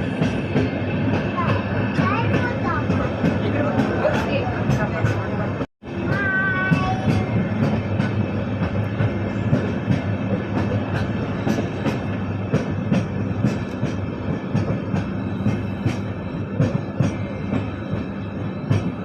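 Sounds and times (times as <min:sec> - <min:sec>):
rail clicks and clacks: 0:00.0 - 0:19.0
train wheels rumbling: 0:00.0 - 0:19.0.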